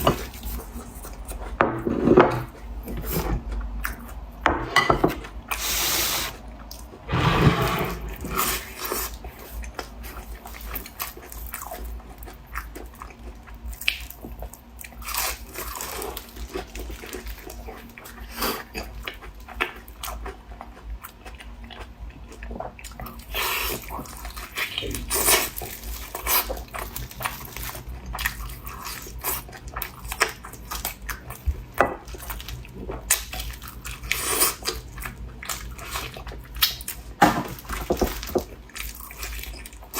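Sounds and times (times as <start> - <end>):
crunchy chewing: 5.5 - 39.9.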